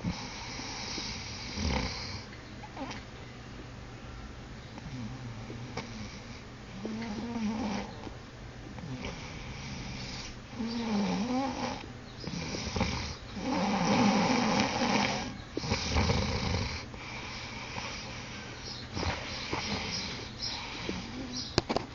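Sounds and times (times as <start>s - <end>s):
man snoring: 0.0s - 3.0s, 4.8s - 8.0s, 8.8s - 21.5s.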